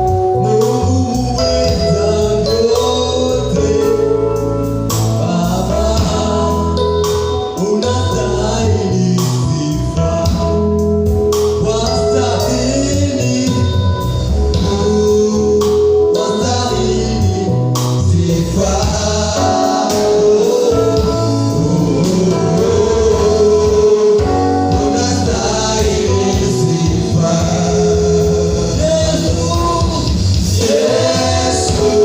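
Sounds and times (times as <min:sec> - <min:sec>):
gospel choir singing: 0:00.0 - 0:10.6, 0:11.5 - 0:32.0
instruments with bass line: 0:00.0 - 0:32.0.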